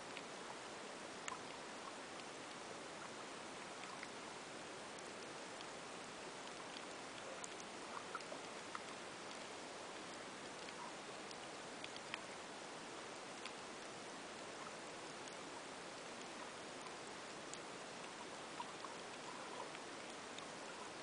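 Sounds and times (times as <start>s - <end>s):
faint clicks and crackles: 0.0s - 21.0s
steady underwater hiss: 0.0s - 21.0s.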